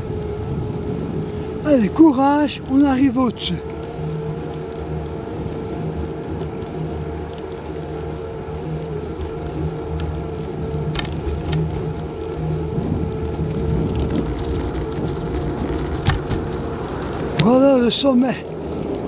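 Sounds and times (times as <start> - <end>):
low wind: 0.0 - 19.0
road rumble: 0.0 - 19.0
small vehicle motor running: 0.0 - 19.0.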